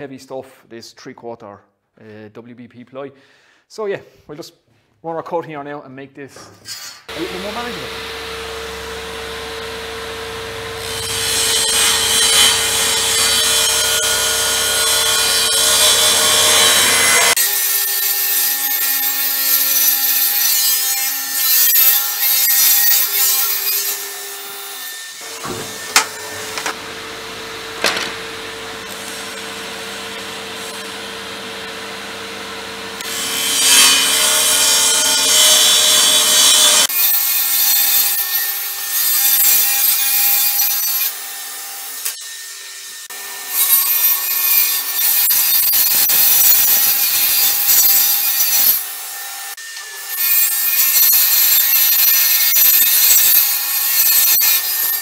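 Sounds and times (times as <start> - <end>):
table saw cutting plywood: 7.1 - 55.0.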